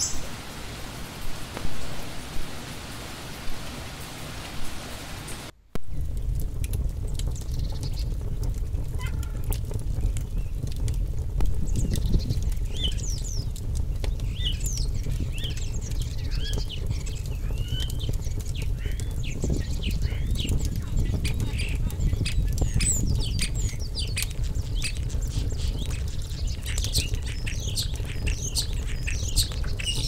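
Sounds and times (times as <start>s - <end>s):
birds chirping: 0.0s - 30.0s
steady low rumble: 0.0s - 30.0s
wood fire crackling: 0.0s - 30.0s.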